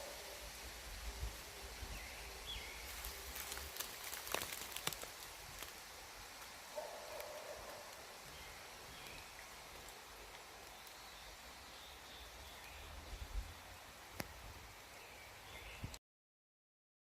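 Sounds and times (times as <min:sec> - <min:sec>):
wind rustling bamboo leaves: 0:00.0 - 0:16.0.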